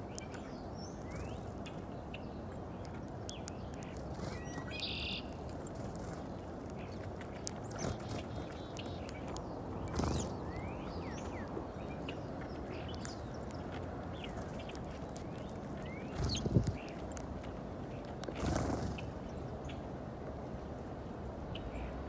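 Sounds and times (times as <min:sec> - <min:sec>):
low background noise: 0:00.0 - 0:22.0
small birds chirping: 0:00.0 - 0:22.0.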